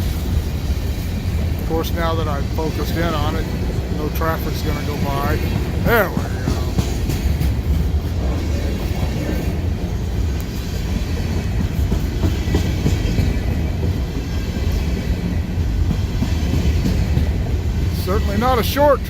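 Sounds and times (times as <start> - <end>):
wheels clicking over rail joints: 0.0 - 18.8
freight cars rolling on rails: 0.0 - 19.0.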